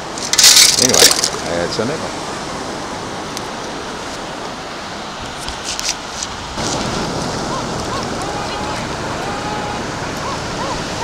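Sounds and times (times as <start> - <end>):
surf washing over rocky beach: 0.0 - 11.0.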